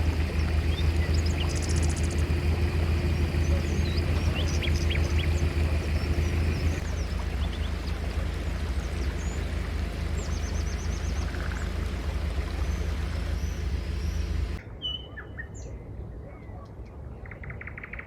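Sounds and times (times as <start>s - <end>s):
small engine running: 0.0s - 14.6s
birds chirping: 0.0s - 15.8s.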